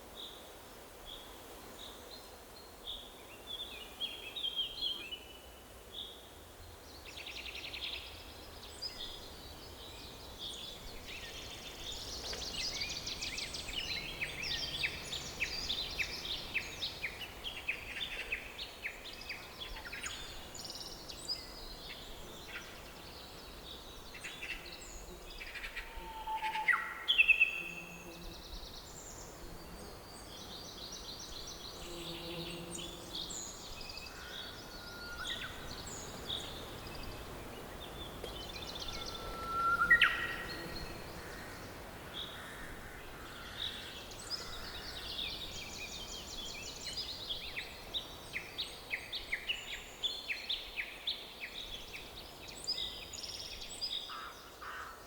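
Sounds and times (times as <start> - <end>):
faint background hiss: 0.0 - 55.0
forest birds singing: 0.0 - 55.0.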